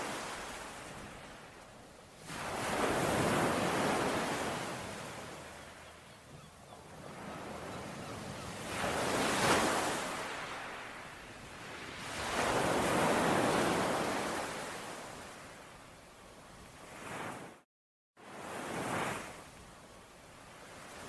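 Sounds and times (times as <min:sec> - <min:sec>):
ocean waves washing ashore: 0:00.0 - 0:17.6, 0:18.2 - 0:21.0.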